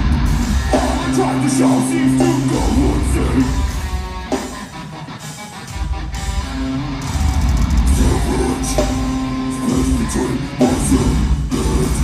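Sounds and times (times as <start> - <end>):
heavy electric guitars: 0.0 - 12.0
metalcore band playing live: 0.0 - 12.0.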